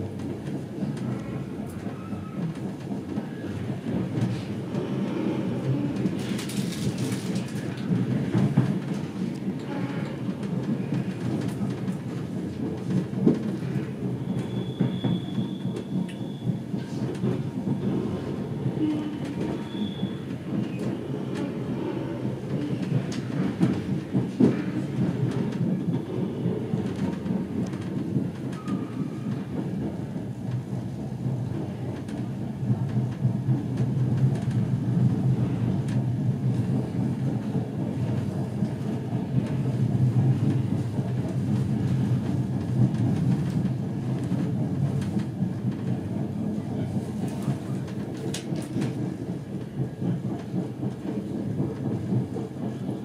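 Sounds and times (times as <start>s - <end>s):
train wheels rumbling on track: 0.0s - 53.0s.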